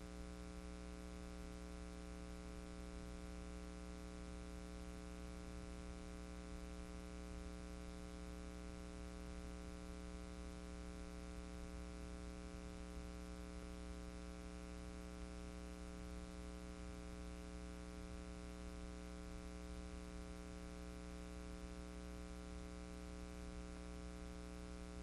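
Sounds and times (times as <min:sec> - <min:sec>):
electrical hum with hiss: 0:00.0 - 0:25.0.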